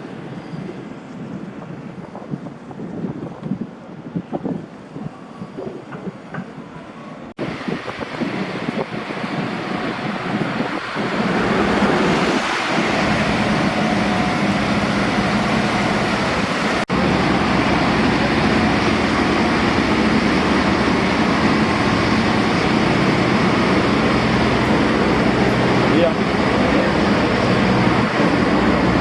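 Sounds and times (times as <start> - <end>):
city street traffic: 0.0 - 29.0.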